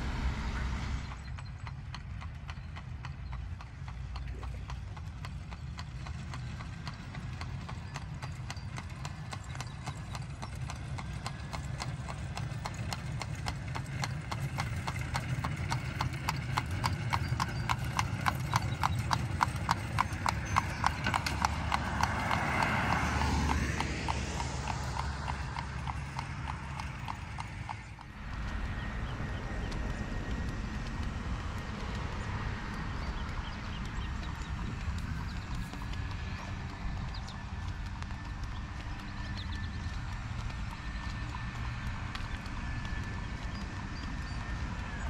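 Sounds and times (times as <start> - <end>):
horse hooves clip-clopping: 0.0 - 45.0.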